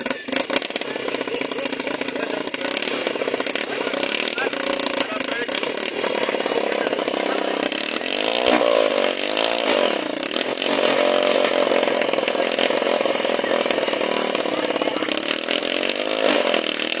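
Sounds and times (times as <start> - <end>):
helicopter motor buzzing: 0.0 - 17.0.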